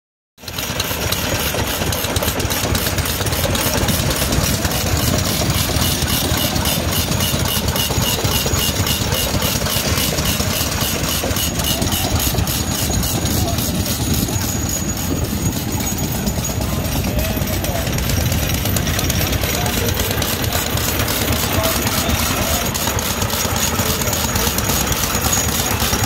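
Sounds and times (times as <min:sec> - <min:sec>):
stationary gas engine running: 0:00.4 - 0:26.0.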